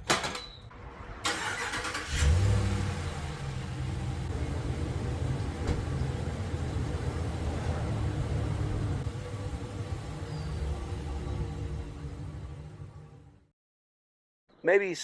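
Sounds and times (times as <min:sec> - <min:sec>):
truck engine starting and idling: 0:00.1 - 0:13.5.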